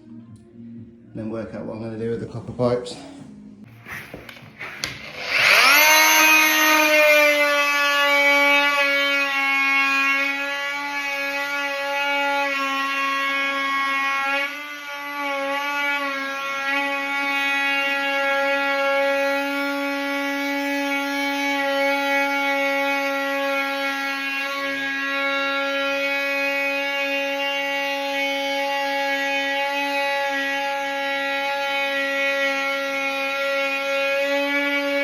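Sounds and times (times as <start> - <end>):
power tool motor whining: 3.7 - 35.0.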